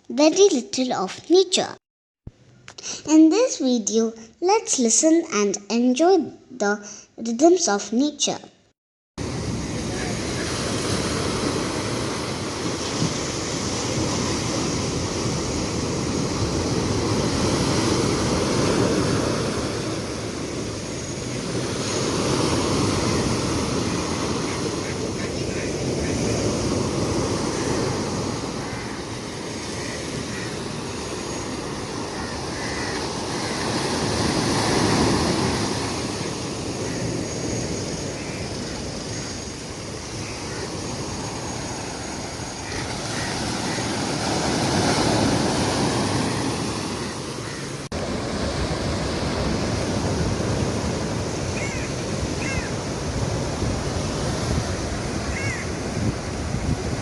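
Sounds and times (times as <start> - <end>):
ocean waves washing in: 9.2 - 57.0.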